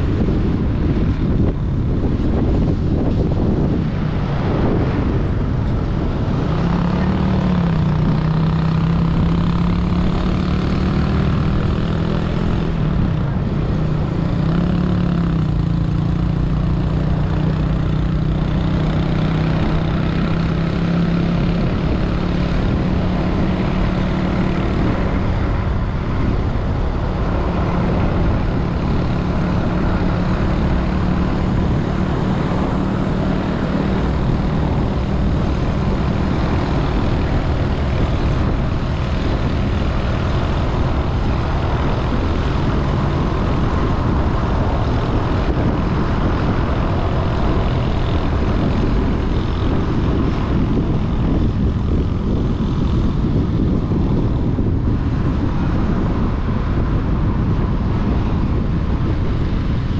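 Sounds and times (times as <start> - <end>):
vehicle engine cruising: 0.0 - 59.9
wind and road noise: 0.0 - 59.9.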